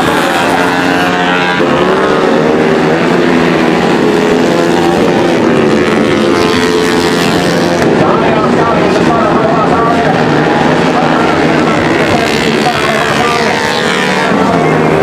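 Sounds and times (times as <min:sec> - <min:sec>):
motorcycles racing at high revs: 0:00.0 - 0:15.0.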